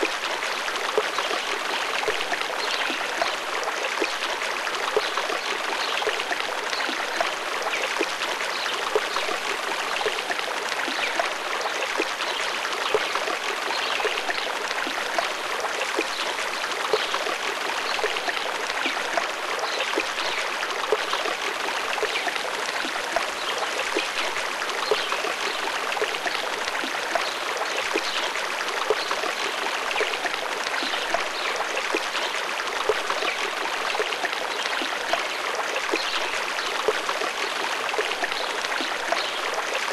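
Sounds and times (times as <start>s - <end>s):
stream flowing with splashes: 0.0s - 39.9s.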